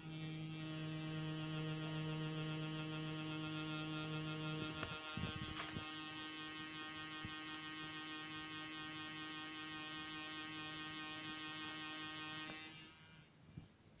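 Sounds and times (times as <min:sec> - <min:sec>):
gimbal motors humming and whining: 0:00.0 - 0:13.4.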